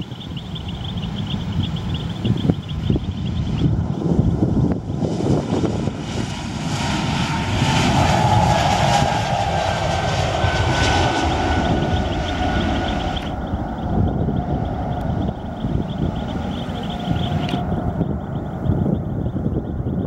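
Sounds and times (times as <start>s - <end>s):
airplane engines passing: 0.0s - 20.0s
wind rumble on microphone: 0.0s - 20.0s.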